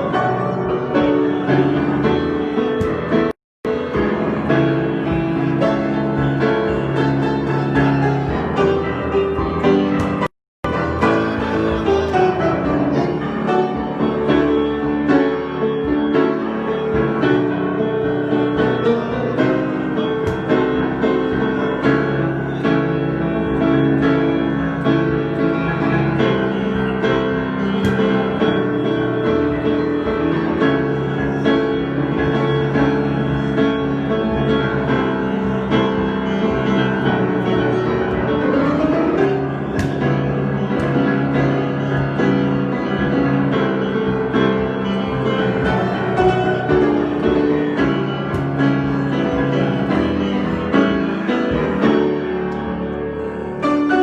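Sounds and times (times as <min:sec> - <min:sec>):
solo piano: 0:00.0 - 0:54.0.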